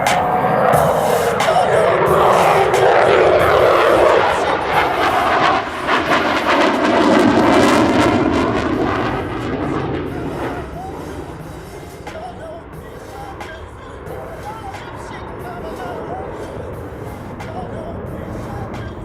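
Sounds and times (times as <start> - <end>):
jet fighter roaring overhead: 0.0 - 19.0.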